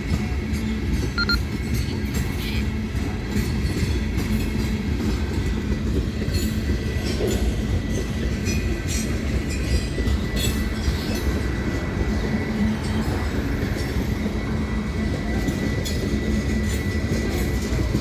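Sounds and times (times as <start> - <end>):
freight train rumble: 0.0 - 18.0.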